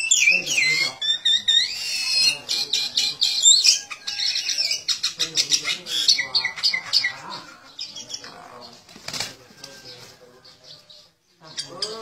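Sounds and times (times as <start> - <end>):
small bird chirping and squawking: 0.0 - 12.0.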